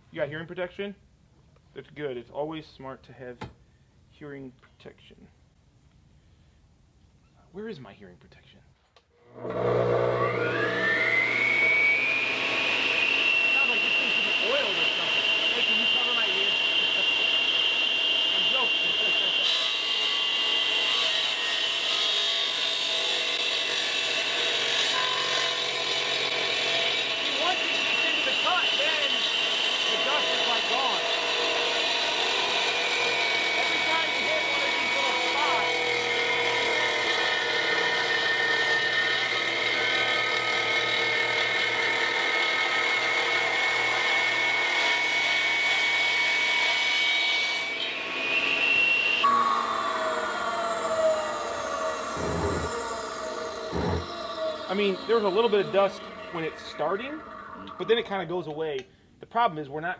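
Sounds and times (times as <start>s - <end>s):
masonry saw whining: 9.2s - 58.6s.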